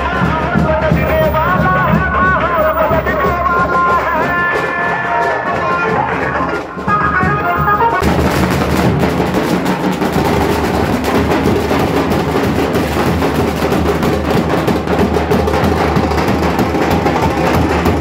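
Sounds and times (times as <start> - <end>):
drums beaten in fast rhythm: 0.0 - 18.0.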